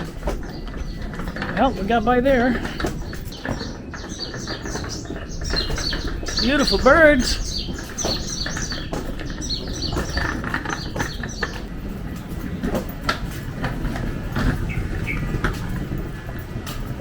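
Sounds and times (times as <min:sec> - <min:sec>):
small songbirds chirping: 0:00.0 - 0:16.5.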